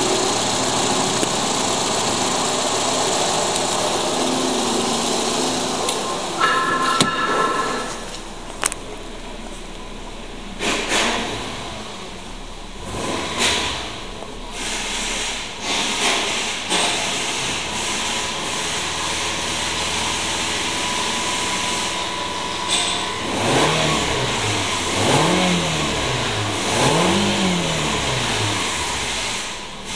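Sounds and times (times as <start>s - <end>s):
car engine running and revving: 0.0s - 29.9s.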